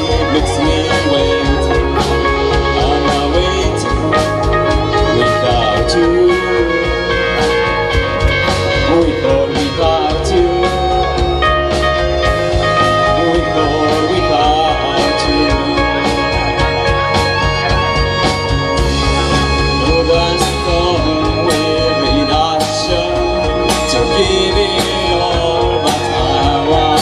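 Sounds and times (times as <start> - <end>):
live rock band playing: 0.0 - 27.0
wavering lead melody: 0.0 - 27.0.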